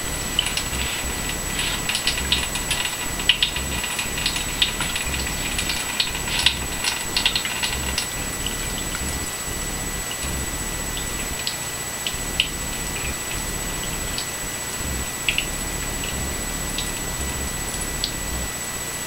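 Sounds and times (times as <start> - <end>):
spattering and crackling: 0.0 - 18.6.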